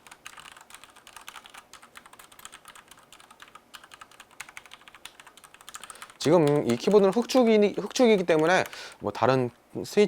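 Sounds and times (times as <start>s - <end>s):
mechanical keyboard typing: 0.0s - 8.8s.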